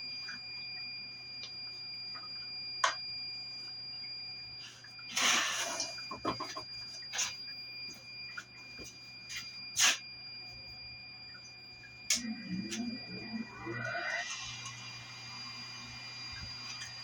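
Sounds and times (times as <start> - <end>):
steady high-pitched whine: 0.0 - 17.0.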